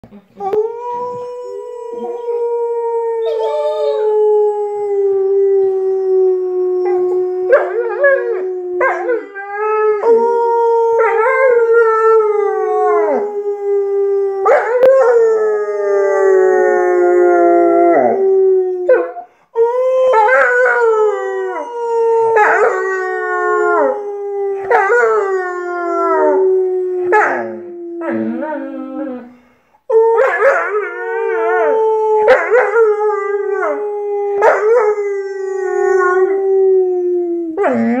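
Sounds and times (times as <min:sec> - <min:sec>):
dog howling: 0:00.4 - 0:29.3, 0:29.9 - 0:37.9.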